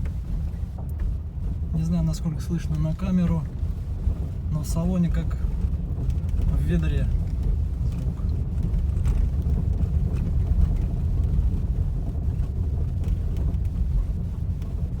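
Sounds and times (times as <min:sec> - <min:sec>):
road and tyre rumble in car: 0:00.0 - 0:15.0.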